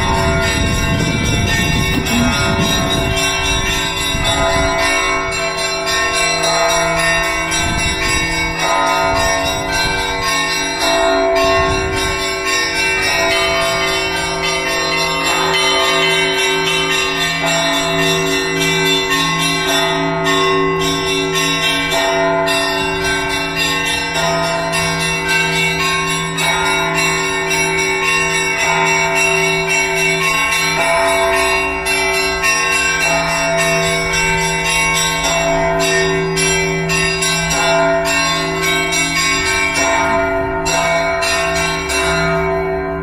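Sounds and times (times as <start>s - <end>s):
church bells ringing: 0.0s - 43.0s
low bell pulsing: 0.0s - 43.0s.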